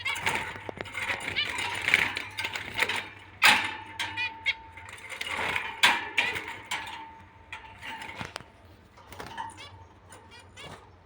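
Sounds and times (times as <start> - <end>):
cage birds chirping: 0.0 - 11.0.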